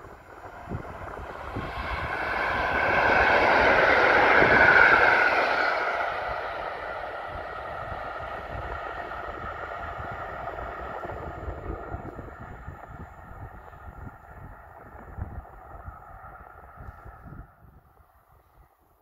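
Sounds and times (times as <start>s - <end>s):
electric train passing by: 0.0s - 18.8s.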